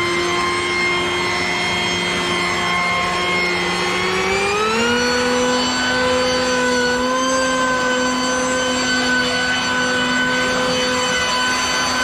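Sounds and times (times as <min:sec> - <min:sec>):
electric blower motor whine: 0:00.0 - 0:12.0.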